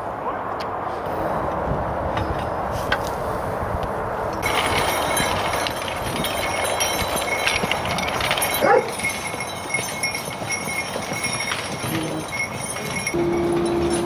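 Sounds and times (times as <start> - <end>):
hooves clopping: 0.6 - 14.0.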